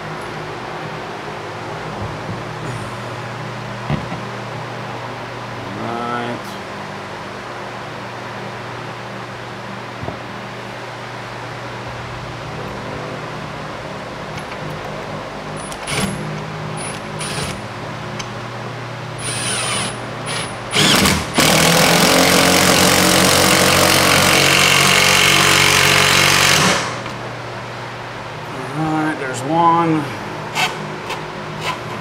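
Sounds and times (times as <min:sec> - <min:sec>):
fan humming: 0:00.0 - 0:32.0.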